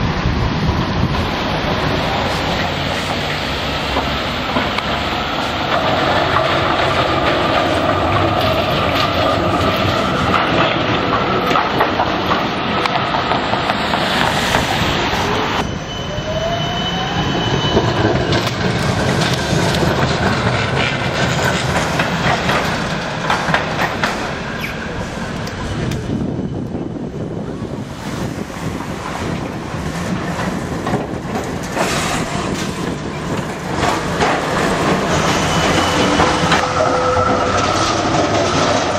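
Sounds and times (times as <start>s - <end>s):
tram whine: 0.0s - 38.9s
tram wheels clicking over rail joints: 1.0s - 15.7s, 17.2s - 38.9s.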